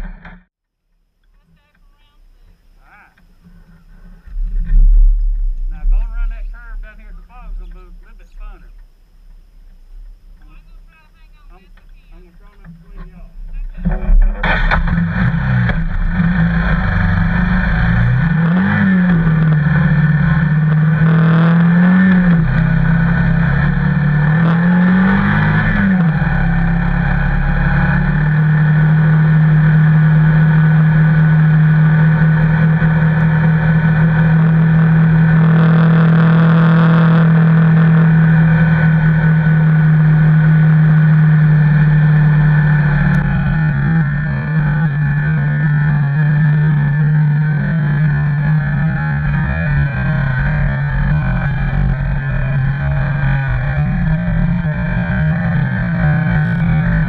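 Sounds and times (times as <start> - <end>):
vehicle engine revving: 0.0 - 0.5, 9.7 - 57.0
steady rushing noise: 3.0 - 57.0.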